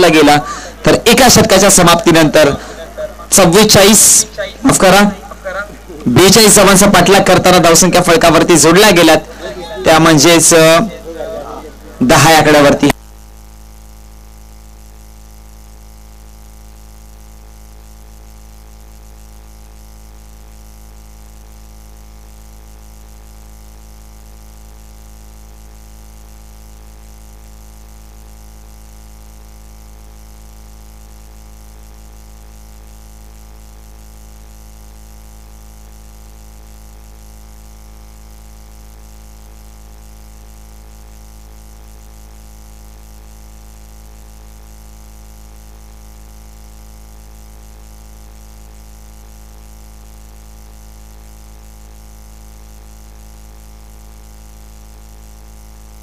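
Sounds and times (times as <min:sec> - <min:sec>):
steady low hum with buzz: 0:00.0 - 0:56.0.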